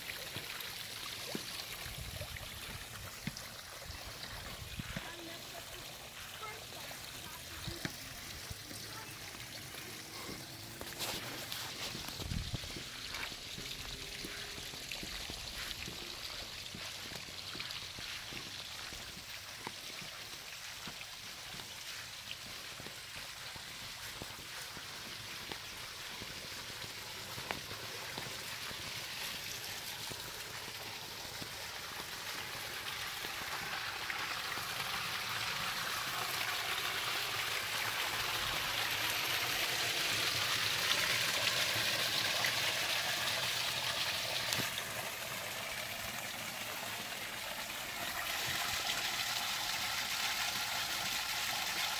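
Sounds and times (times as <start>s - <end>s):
water trickling and splashing: 0.0s - 51.9s.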